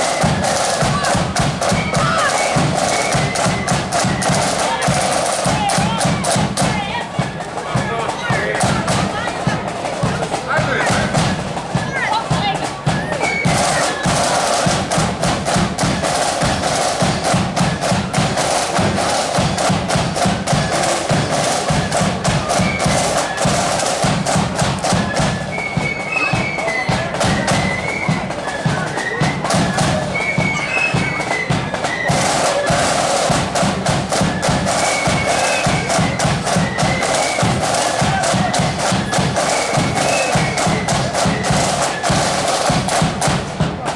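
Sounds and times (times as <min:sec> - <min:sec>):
heavy drum beat: 0:00.0 - 0:43.9
marching band playing: 0:00.0 - 0:43.9.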